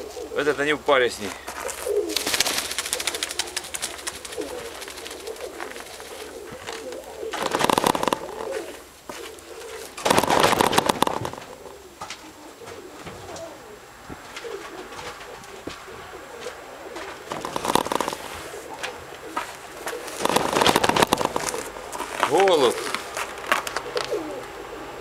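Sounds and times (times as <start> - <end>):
wing flurries: 0.0 - 13.8, 16.2 - 23.2
pigeons cooing: 0.0 - 25.0.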